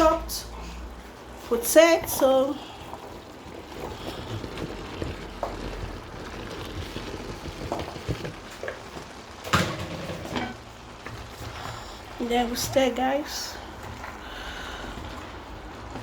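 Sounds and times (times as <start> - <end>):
sauce sizzling in a pot: 0.0 - 16.0.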